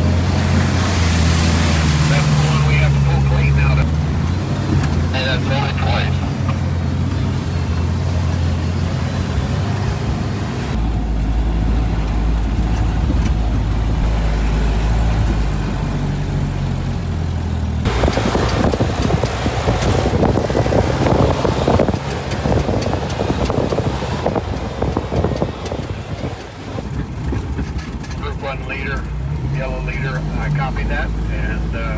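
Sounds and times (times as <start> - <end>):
car engine running low: 0.0 - 31.9
rough rattling from ride: 0.0 - 31.9.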